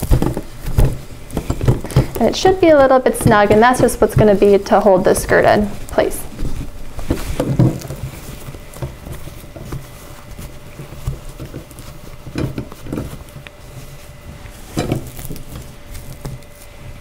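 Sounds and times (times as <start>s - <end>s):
cloth rustling: 0.0s - 17.0s
soft handling bumps: 0.0s - 17.0s.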